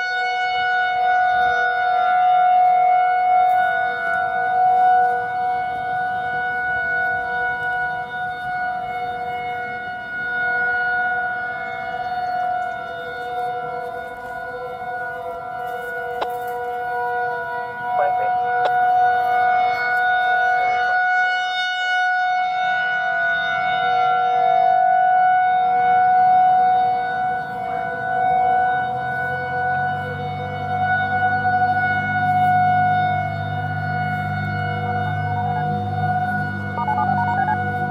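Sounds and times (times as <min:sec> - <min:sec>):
rotating warning siren steady tone: 0:00.0 - 0:37.9.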